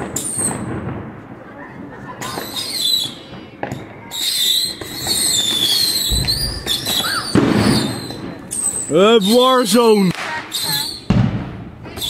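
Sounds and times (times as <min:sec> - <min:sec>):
whistling rockets: 0:00.0 - 0:01.0, 0:02.1 - 0:12.0
firework bang: 0:00.0 - 0:03.9, 0:04.6 - 0:12.0
firework pops: 0:02.2 - 0:12.0.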